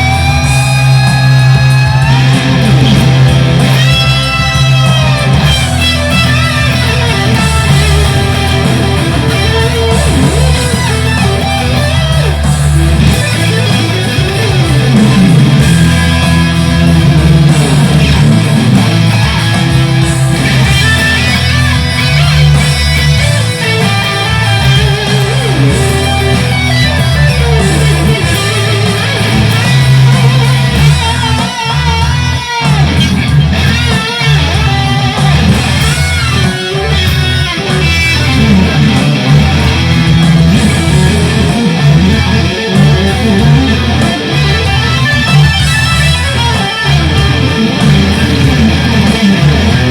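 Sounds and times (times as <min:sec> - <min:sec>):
electric guitar sustained notes: 0:00.0 - 0:49.9.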